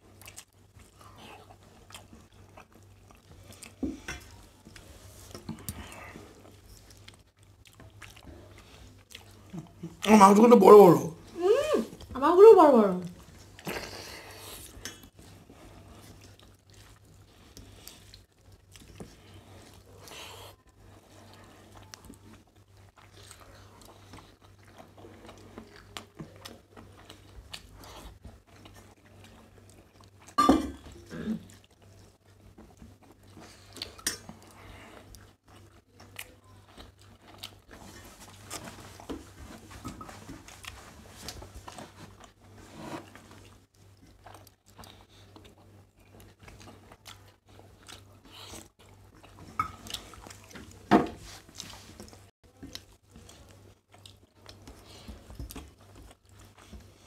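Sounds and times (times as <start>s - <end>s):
chewing: 0.1s - 10.1s, 13.2s - 57.0s.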